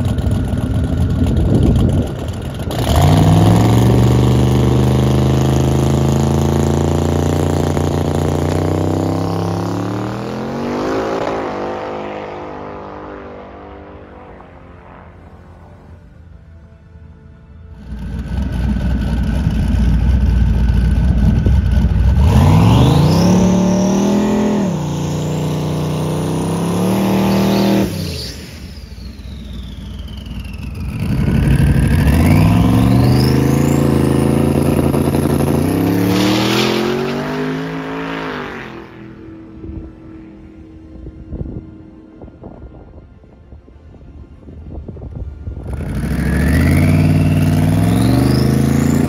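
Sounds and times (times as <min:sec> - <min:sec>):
car engine revving: 0:00.0 - 0:16.1, 0:17.8 - 0:40.4, 0:45.7 - 0:49.0.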